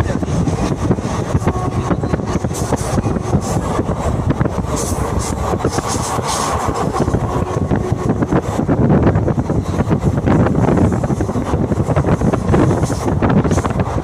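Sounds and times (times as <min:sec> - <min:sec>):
train wheels rattling: 0:00.0 - 0:14.0.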